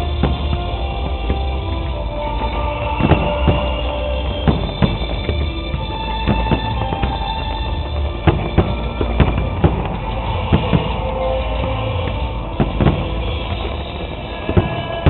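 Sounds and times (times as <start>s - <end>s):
firework bangs: 0.0s - 15.0s
loud music with drums: 0.0s - 15.0s.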